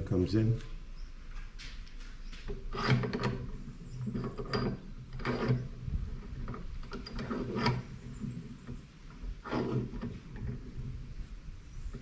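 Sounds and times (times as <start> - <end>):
metal vise scraping and clunking: 2.3 - 12.0.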